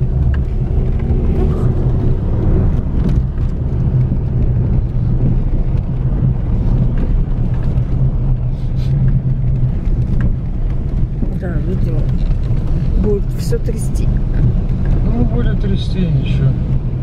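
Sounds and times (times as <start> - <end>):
car rumbling on dirt track: 0.0 - 17.0.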